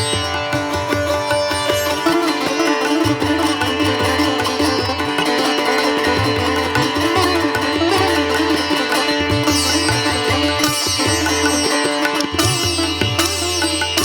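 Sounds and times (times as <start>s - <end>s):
plucked-string melody: 0.0s - 14.0s.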